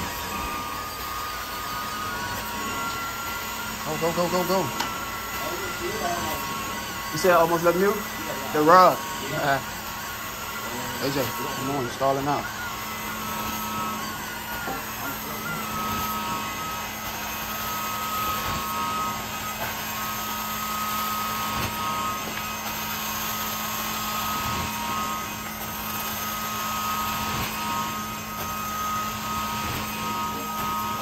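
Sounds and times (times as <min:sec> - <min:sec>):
high whine: 0:00.0 - 0:31.0.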